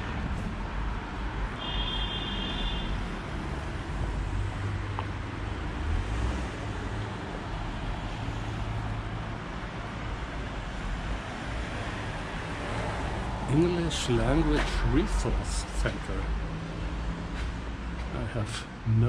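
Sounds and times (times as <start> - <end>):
passing cars rumbling: 0.0 - 19.0.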